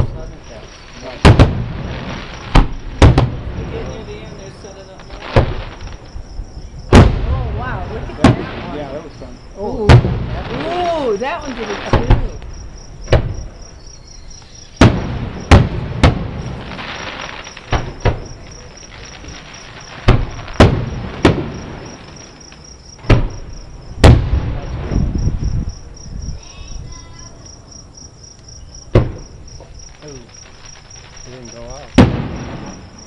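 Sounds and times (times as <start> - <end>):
crickets chirping: 0.0 - 33.0
fireworks booming: 0.0 - 33.0
fireworks crackle: 0.0 - 33.0.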